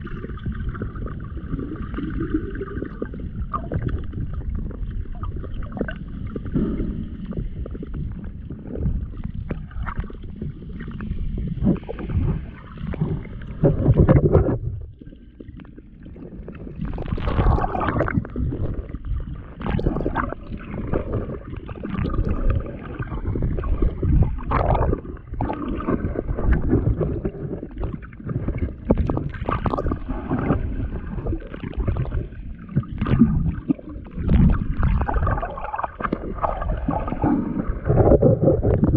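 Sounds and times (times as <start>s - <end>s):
water sloshing and gurgling: 0.0s - 38.9s
crackles and knocks: 7.3s - 38.9s.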